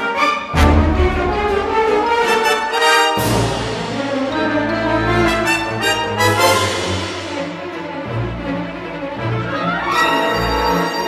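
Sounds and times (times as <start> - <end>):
orchestral music with low strings: 0.0 - 11.0.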